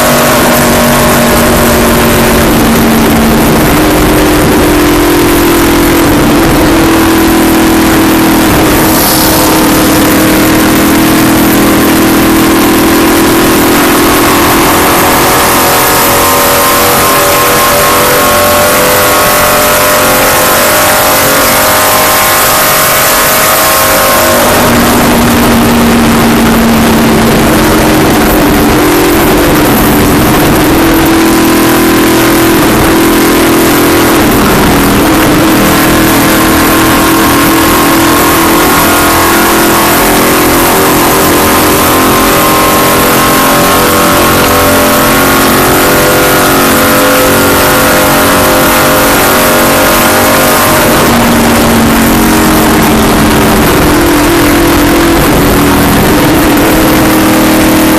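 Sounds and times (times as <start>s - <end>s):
constant rushing noise: 0.0s - 57.9s
race car engine at speed: 0.0s - 57.9s.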